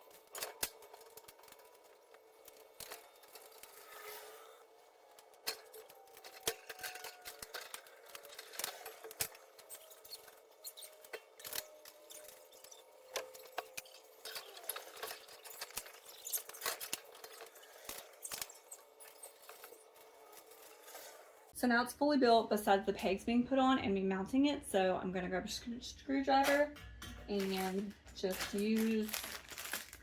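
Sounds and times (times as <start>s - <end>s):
steel parts clicking and clinking: 0.0s - 21.5s, 26.4s - 30.0s.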